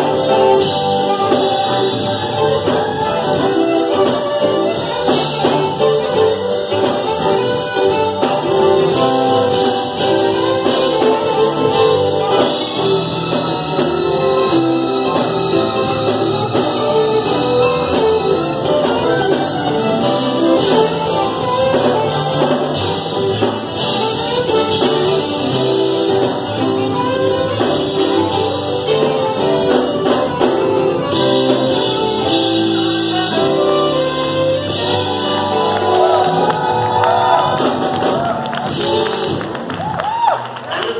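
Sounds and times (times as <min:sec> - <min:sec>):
saxophone melody: 0:00.0 - 0:40.0
keyboard accompaniment: 0:00.0 - 0:40.9.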